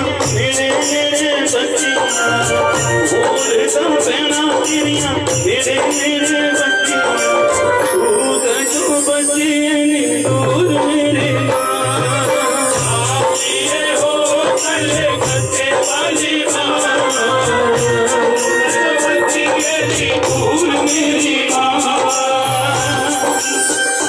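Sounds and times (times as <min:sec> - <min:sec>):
steady drum beat: 0:00.0 - 0:09.1, 0:10.2 - 0:24.0
devotional music over sound system: 0:00.0 - 0:24.0.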